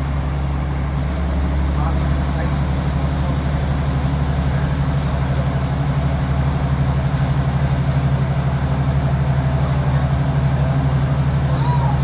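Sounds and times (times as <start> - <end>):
train diesel engine droning: 0.0 - 12.0
train running over rails: 0.9 - 12.0.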